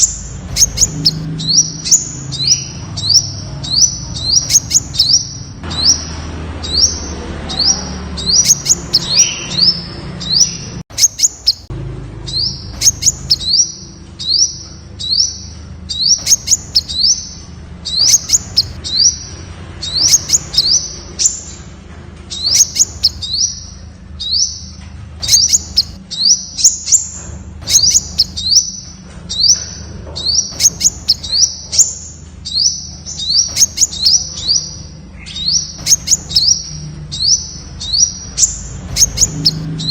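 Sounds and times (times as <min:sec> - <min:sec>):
sharp bird clicks: 0:00.0 - 0:07.0, 0:08.2 - 0:11.7, 0:12.3 - 0:21.5, 0:22.2 - 0:39.9
bird chirping: 0:00.0 - 0:39.9.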